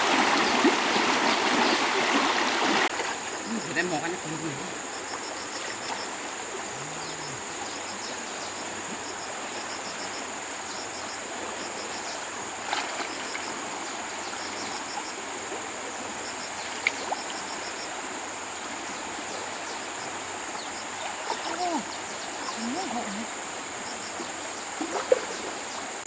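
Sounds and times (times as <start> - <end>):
high insect drone: 0.0 - 26.0
insects chirping: 0.0 - 26.0
stream rushing: 0.0 - 26.0.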